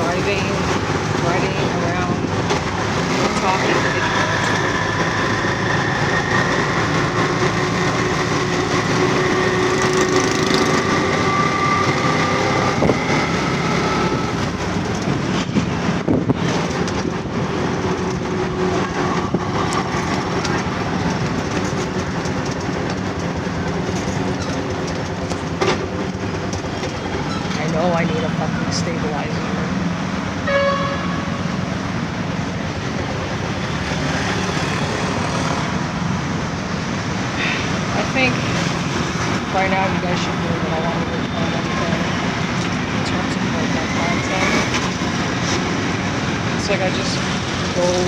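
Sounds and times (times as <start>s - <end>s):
road and wind noise: 0.0s - 48.0s.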